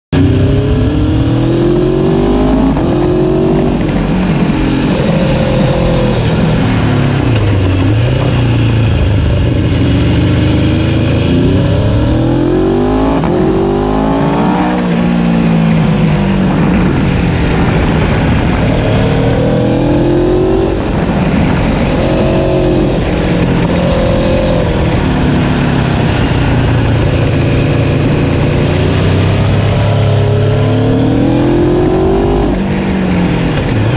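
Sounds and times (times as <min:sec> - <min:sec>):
wind and tyre noise: 0:00.1 - 0:33.9
motorcycle engines revving: 0:00.2 - 0:33.9.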